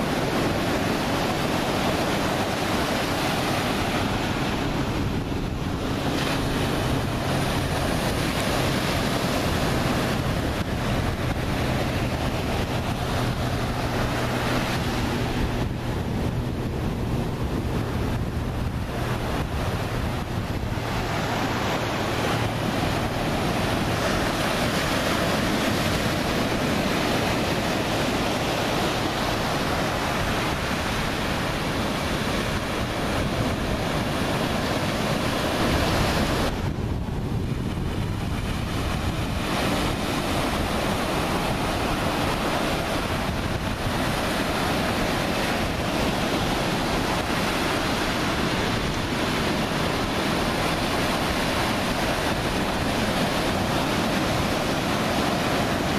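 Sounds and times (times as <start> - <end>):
ocean surf rushing: 0.0 - 55.9
wind buffeting the microphone: 0.0 - 55.9.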